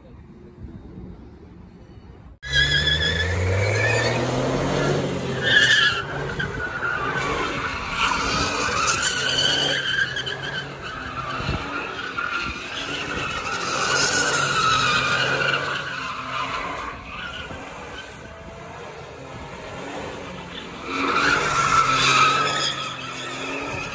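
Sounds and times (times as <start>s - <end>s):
tires squealing: 2.4s - 23.9s.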